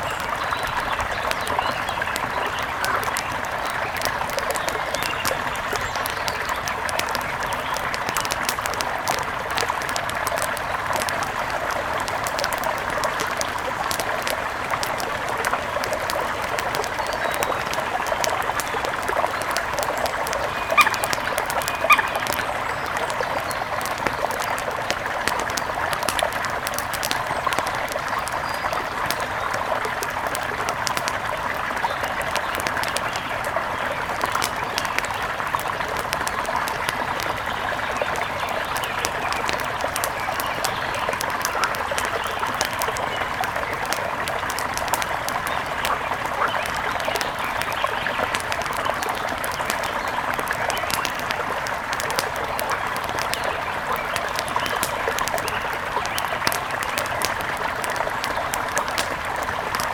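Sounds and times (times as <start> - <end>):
faint crackles: 0.0 - 59.9.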